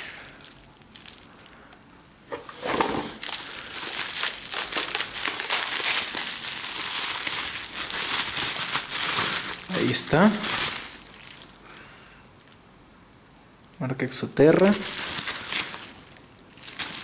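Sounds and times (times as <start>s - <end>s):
bubble wrap crinkling: 0.0s - 12.7s, 14.4s - 17.0s.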